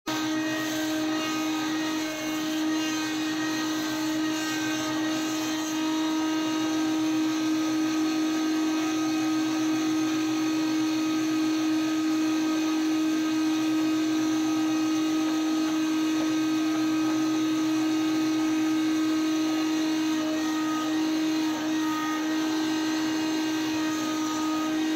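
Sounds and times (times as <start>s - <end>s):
band saw sawing through log: 0.1s - 24.9s.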